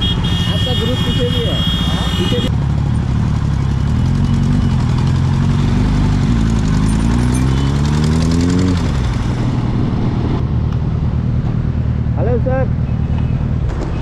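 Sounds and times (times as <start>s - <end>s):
motorcycle engine accelerating: 0.0s - 13.7s.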